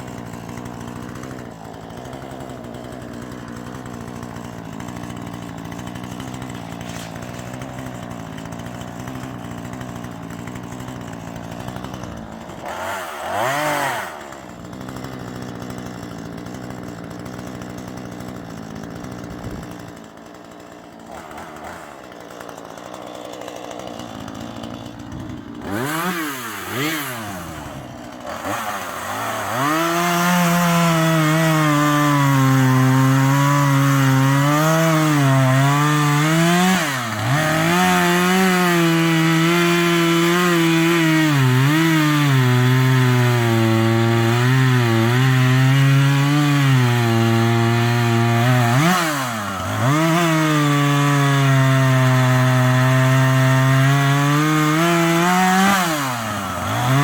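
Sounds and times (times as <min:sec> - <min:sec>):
chainsaw cutting wood: 0:00.0 - 0:57.0
chainsaw revving: 0:00.0 - 0:57.0.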